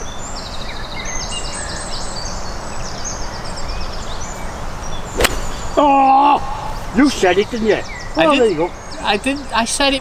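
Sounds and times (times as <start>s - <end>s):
songbird trilling: 0.0s - 6.1s, 6.8s - 9.9s.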